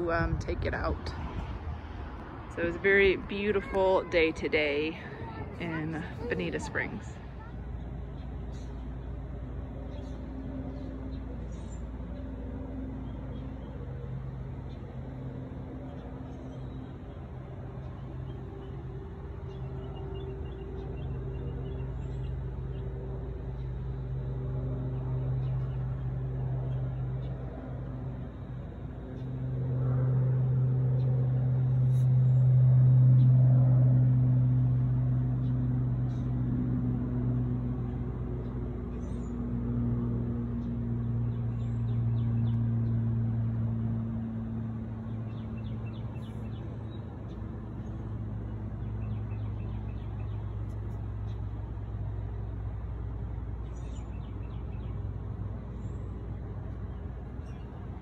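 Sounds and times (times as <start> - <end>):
faint droning tones: 0.0 - 58.0
low mechanical hum: 0.0 - 58.0.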